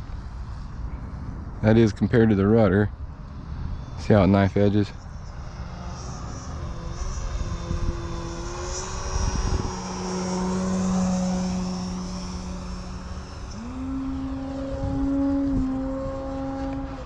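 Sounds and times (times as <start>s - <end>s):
wind rumble on microphone: 0.0s - 17.0s
model airplane motor humming: 3.1s - 17.0s.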